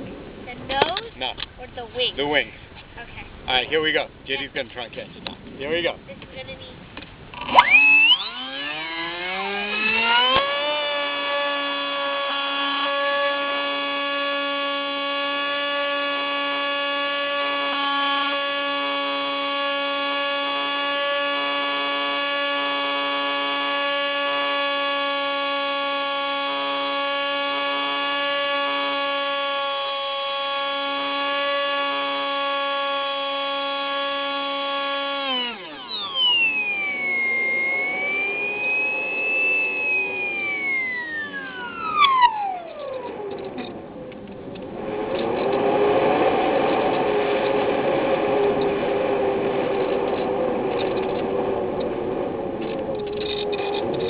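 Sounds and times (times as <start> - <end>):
rc plane motor whining: 7.4 - 54.0.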